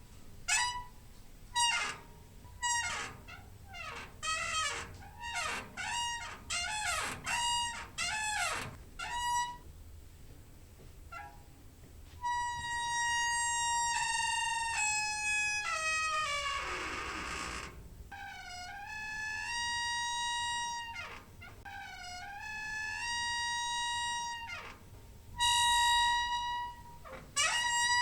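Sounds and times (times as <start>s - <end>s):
creaking door hinge squeaking: 0.4s - 9.7s, 11.1s - 11.6s, 12.2s - 28.0s.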